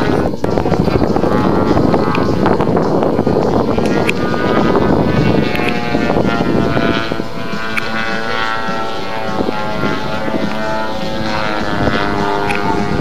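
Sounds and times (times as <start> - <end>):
low rumble: 0.0 - 13.0
model airplane engine buzzing: 0.0 - 13.0.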